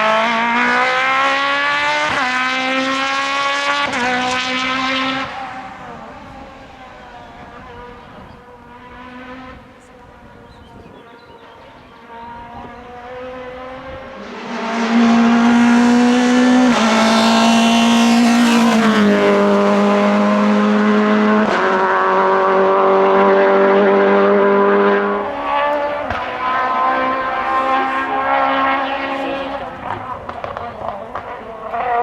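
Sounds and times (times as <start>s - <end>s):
rally car engine at high revs: 0.0s - 32.0s.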